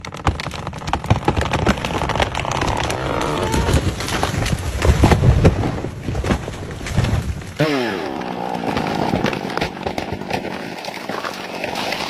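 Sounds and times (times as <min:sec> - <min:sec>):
wood cracking and snapping: 0:00.0 - 0:12.0.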